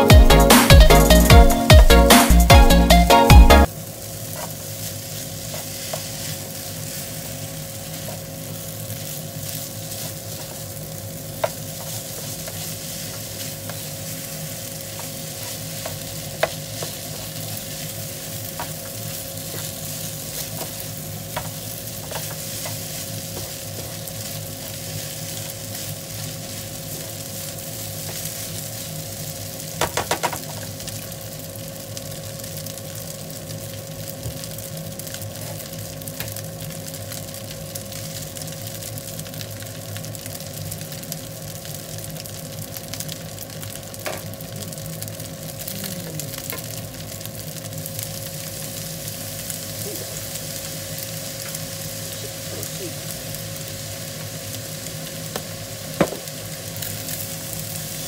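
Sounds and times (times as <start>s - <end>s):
rice sizzling in frying pan: 0.0s - 58.0s.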